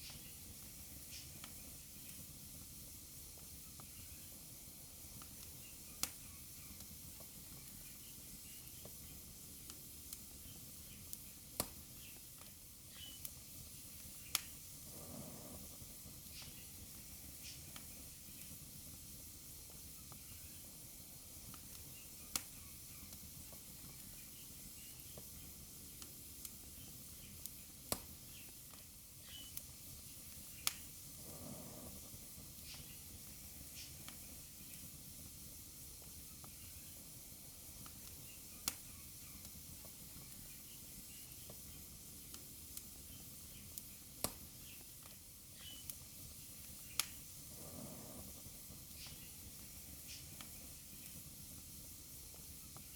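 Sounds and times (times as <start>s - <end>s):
fire hissing: 0.0s - 52.9s
soft whoosh of flame: 0.0s - 52.9s
wood fire crackling and popping: 0.0s - 52.9s.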